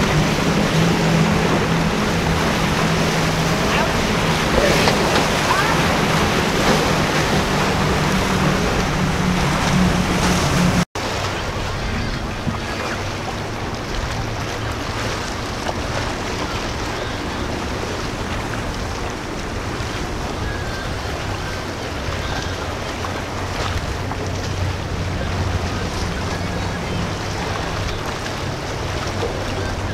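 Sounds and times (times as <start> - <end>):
powerboat engines droning: 0.0 - 29.9
rushing water: 0.0 - 29.9
wind on microphone: 0.0 - 29.9.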